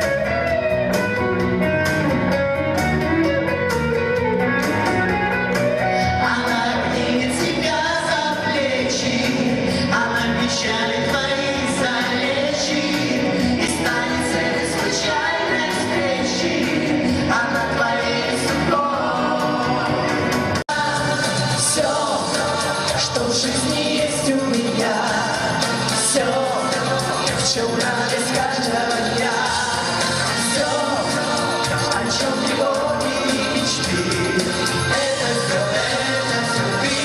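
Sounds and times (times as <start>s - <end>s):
live pop band playing: 0.0s - 37.0s
person singing: 5.8s - 37.0s.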